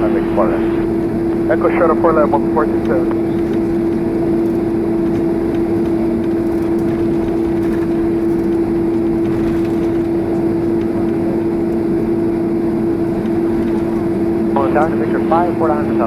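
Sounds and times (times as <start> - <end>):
airplane cabin noise: 0.0 - 16.0.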